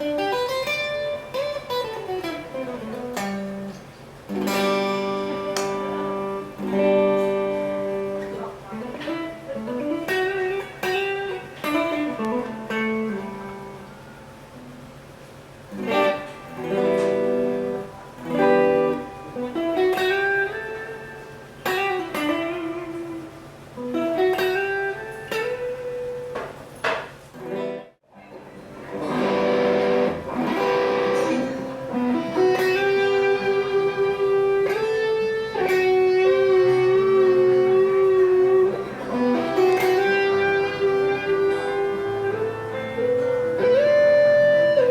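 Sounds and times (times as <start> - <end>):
electric guitar melodic lines: 0.0 - 44.9.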